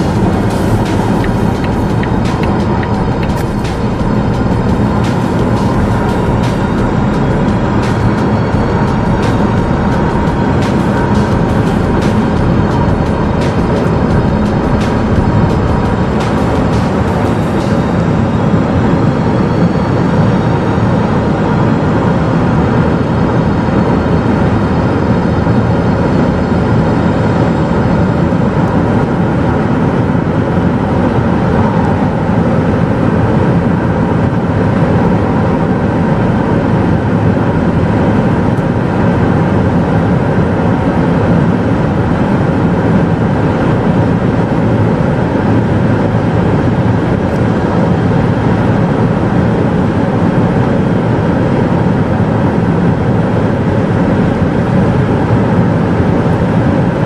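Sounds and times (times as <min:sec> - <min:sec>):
car engine drone: 0:00.0 - 0:57.0
road noise: 0:00.0 - 0:57.0
wind noise: 0:00.0 - 0:57.0.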